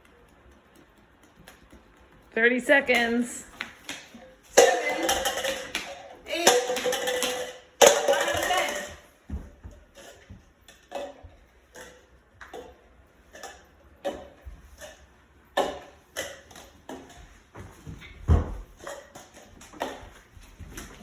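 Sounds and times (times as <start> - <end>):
plastic cups clacking on table: 3.2 - 21.0.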